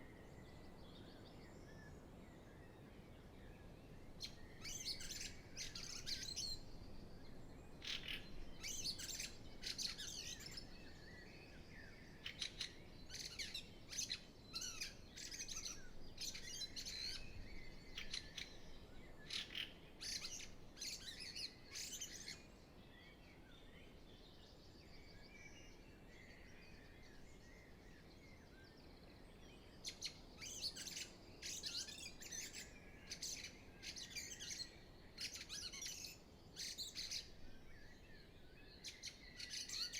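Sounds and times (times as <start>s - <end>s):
faint low hiss: 0.0s - 39.9s
songbirds singing: 0.0s - 39.9s.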